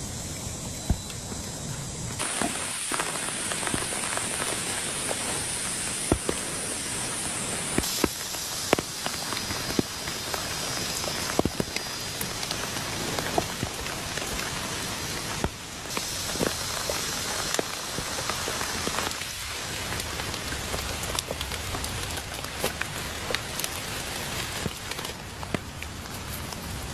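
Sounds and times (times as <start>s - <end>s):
rain falling: 0.0s - 26.9s.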